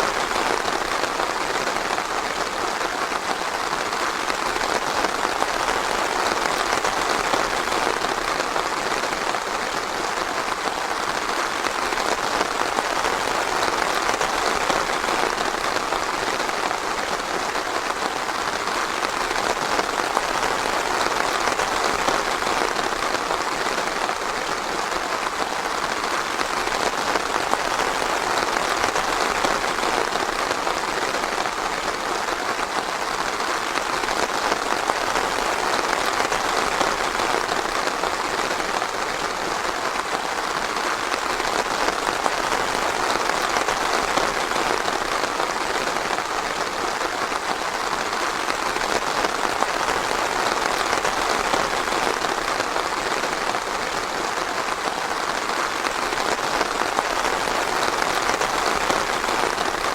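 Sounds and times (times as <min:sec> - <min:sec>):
rain pattering on foliage: 0:00.0 - 0:59.9.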